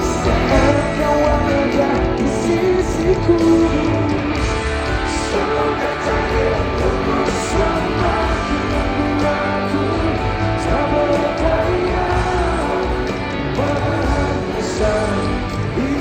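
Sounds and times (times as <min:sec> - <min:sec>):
live rock band music: 0:00.0 - 0:16.0
person singing: 0:00.0 - 0:16.0.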